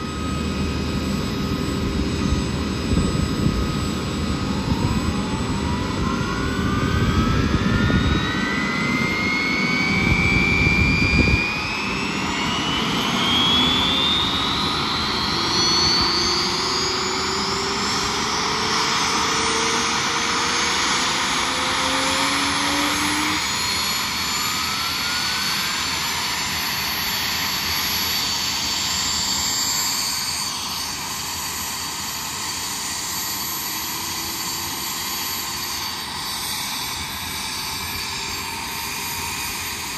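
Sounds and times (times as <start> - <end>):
helicopter turbine whine: 0.0 - 39.9.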